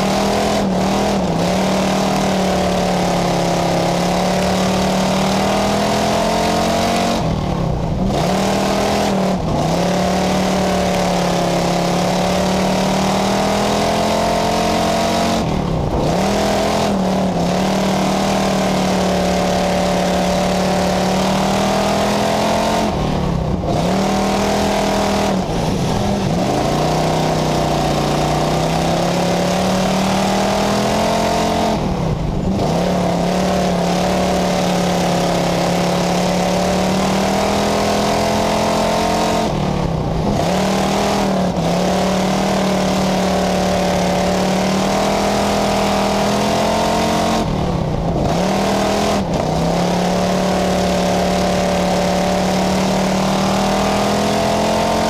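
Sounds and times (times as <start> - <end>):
race car engine at high revs: 0.0 - 55.0
road and wind noise: 0.0 - 55.0.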